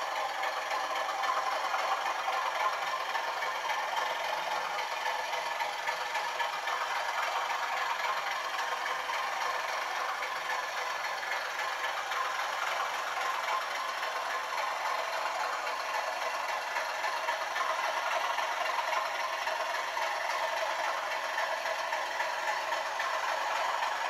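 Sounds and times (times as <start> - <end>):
model train running on track: 0.0 - 24.0.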